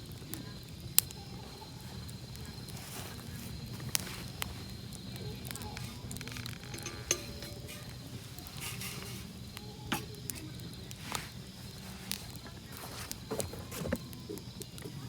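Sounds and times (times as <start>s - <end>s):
campfire crackling: 0.0s - 15.0s
sharp pops of fire: 0.0s - 15.0s.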